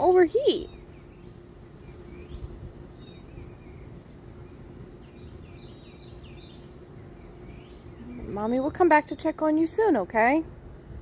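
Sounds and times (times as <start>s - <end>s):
faint steady hum: 0.0s - 11.0s
low background rumble: 0.0s - 11.0s
small birds chirping: 0.0s - 11.0s.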